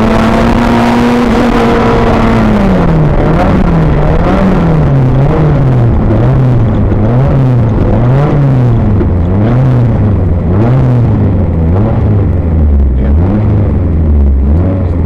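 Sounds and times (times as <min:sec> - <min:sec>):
rally car engine revving: 0:00.0 - 0:15.0
road and drivetrain noise: 0:00.0 - 0:15.0.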